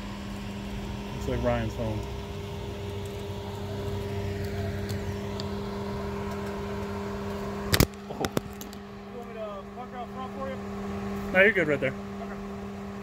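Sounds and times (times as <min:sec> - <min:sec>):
van engine running: 0:00.0 - 0:13.0.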